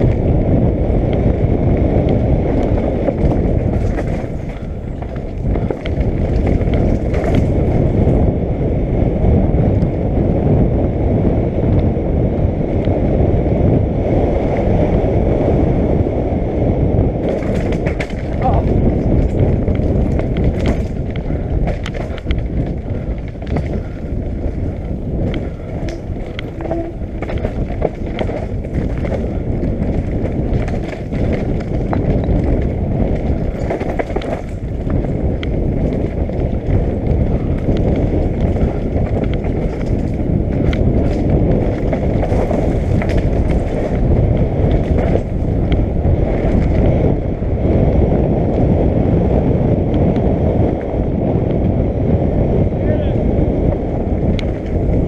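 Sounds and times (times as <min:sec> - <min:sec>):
bike rattling over rough trail: 0:00.0 - 0:55.0
wind noise on microphone: 0:00.0 - 0:55.0.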